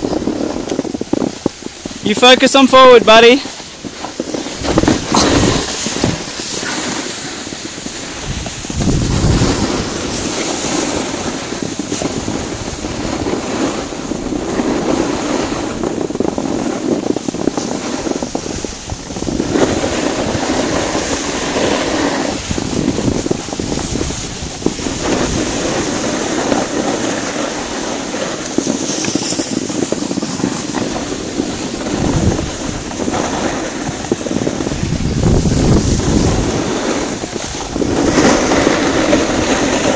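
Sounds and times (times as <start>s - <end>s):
skis sliding over snow: 0.0s - 39.9s
wind rushing over microphone: 0.0s - 39.9s.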